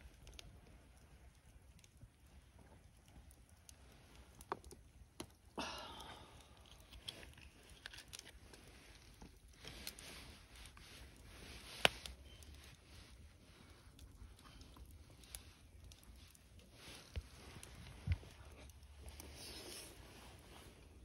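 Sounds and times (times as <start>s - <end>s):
quiet chewing: 0.0s - 20.8s.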